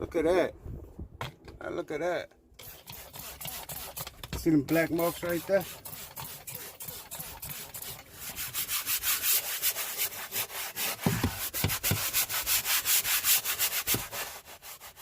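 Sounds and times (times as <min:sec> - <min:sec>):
brush scrubbing a surface: 0:02.6 - 0:15.0.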